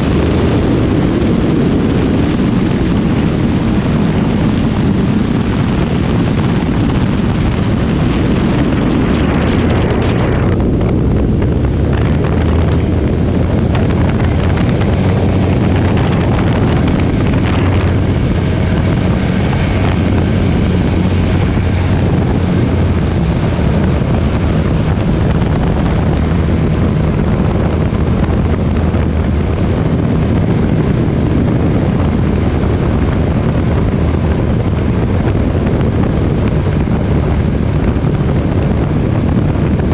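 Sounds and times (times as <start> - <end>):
propeller aircraft engine droning: 0.0 - 39.9
wind noise on microphone: 0.0 - 39.9.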